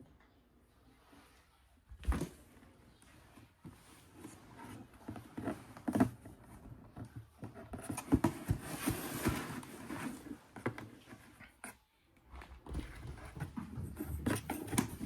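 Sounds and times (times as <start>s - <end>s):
rustling: 1.0s - 15.0s.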